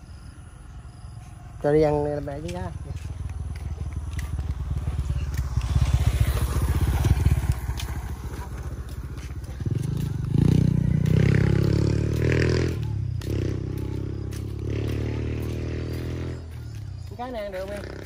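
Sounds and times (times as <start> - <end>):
small motorcycle engine passing: 1.7 - 18.0.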